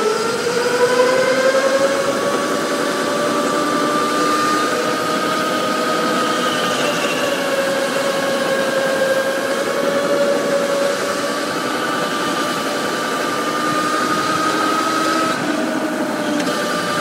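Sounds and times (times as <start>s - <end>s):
electric motor whining: 0.0s - 17.0s
rushing noise: 0.0s - 17.0s.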